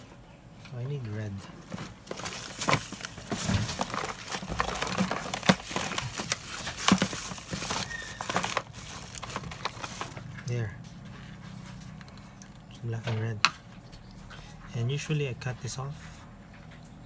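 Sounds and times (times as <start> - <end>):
rustling and crinkling of parts: 0.0 - 17.0.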